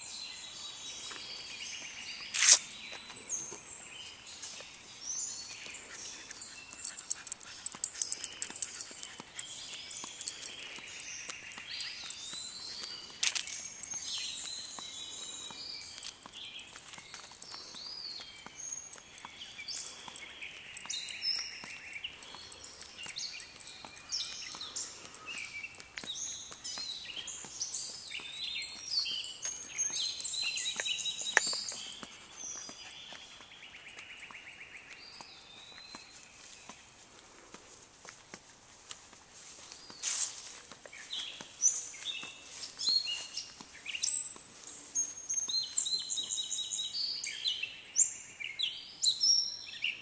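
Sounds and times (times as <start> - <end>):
songbirds singing and chirping: 0.0 - 50.0.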